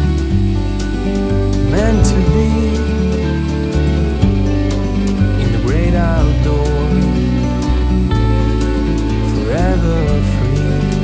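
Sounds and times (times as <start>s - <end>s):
background song: 0.0s - 11.0s.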